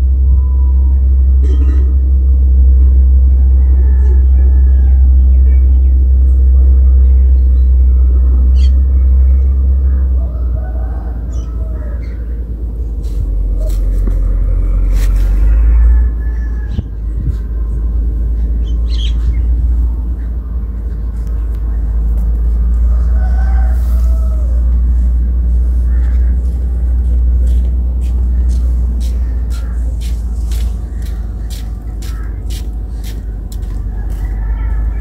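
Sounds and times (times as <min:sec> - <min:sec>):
loud low rumble: 0:00.0 - 0:35.0
birds chirping and squawking: 0:03.5 - 0:35.0.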